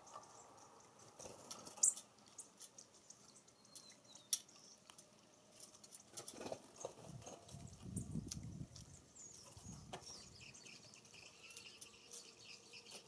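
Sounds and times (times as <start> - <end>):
birds ticking call notes: 0.0 - 13.0.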